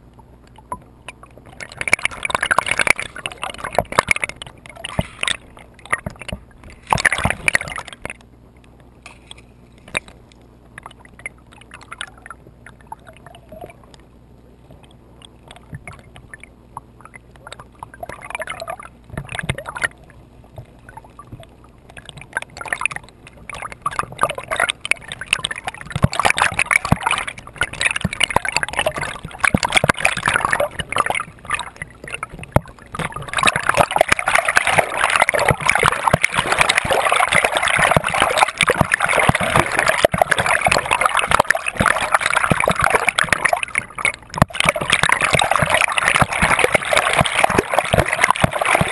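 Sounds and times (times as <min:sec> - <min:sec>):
water gurgling underwater: 0:00.0 - 0:09.1, 0:09.8 - 0:48.9
crackles and clicks: 0:00.0 - 0:48.9
water splashing: 0:00.0 - 0:48.9.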